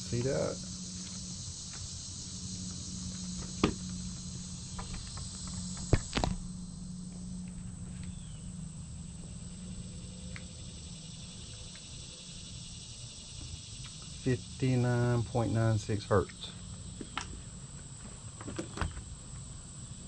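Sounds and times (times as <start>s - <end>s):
low hum: 0.0s - 17.9s
high-pitched background hiss: 0.0s - 20.0s.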